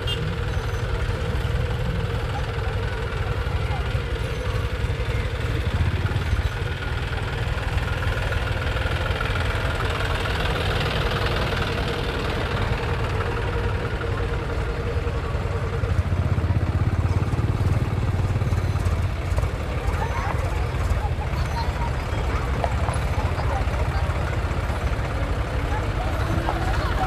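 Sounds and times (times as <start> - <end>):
diesel tractor engines: 0.0 - 27.0.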